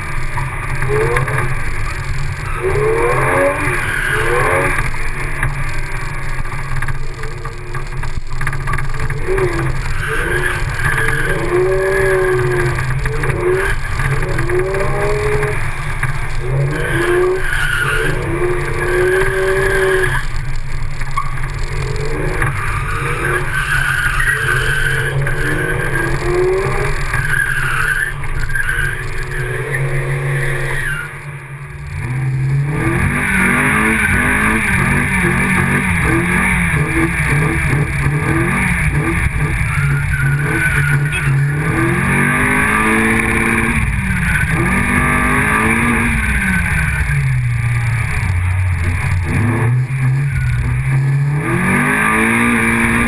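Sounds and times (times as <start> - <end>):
car engine revving: 0.0 - 53.0
tyres squealing on wet pavement: 0.0 - 53.0.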